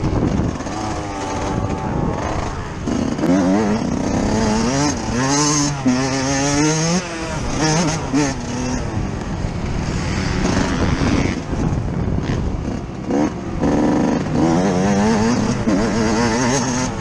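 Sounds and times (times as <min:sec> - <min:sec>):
track noise: 0:00.0 - 0:17.0
two-stroke engine revving: 0:00.0 - 0:17.0
wind noise: 0:00.0 - 0:17.0.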